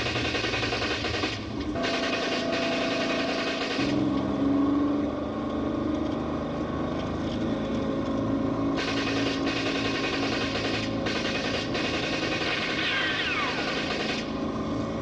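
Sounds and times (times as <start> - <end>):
car engines running at speed: 0.0 - 15.0
road noise: 0.0 - 15.0.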